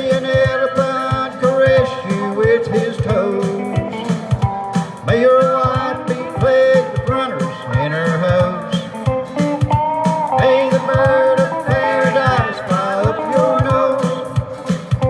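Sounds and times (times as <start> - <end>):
country band with guitar: 0.0 - 15.0
person singing: 0.0 - 15.0.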